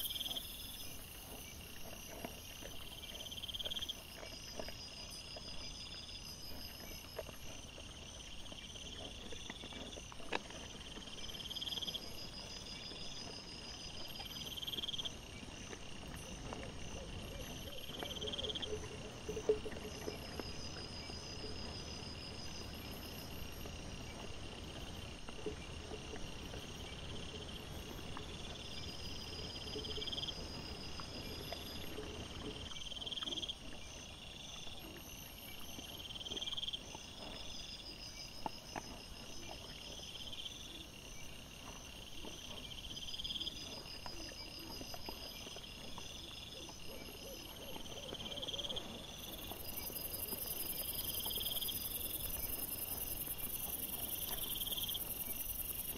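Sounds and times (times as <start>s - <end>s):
boar foraging clicks and rustles: 0.0s - 55.9s
night insects chirping: 0.0s - 55.9s.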